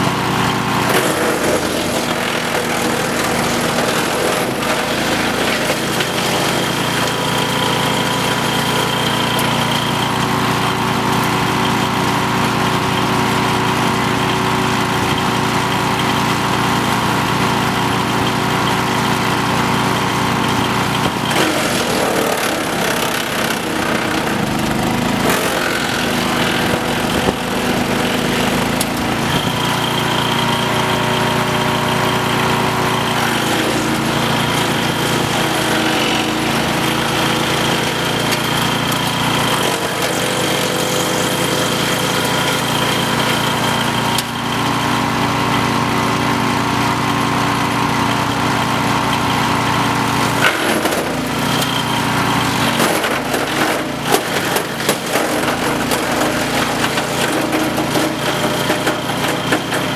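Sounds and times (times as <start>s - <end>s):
wood chipper engine running: 0.0s - 59.9s.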